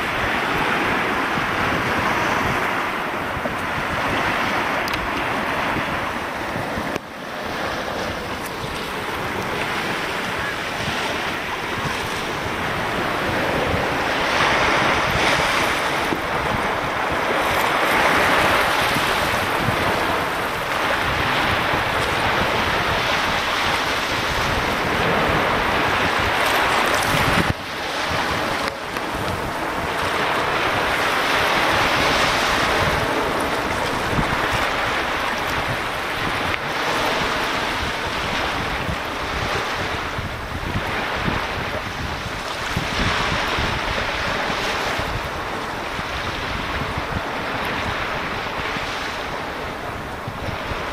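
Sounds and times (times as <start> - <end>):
small sea waves washing in: 0.0 - 50.9
wind buffeting microphone: 0.0 - 50.9.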